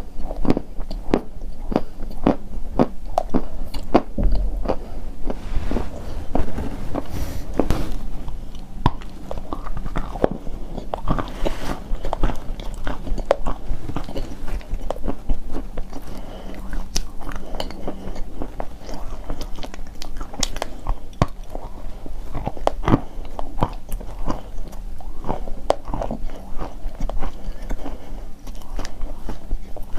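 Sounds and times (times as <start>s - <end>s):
chalk crunching while chewing: 0.0s - 29.9s.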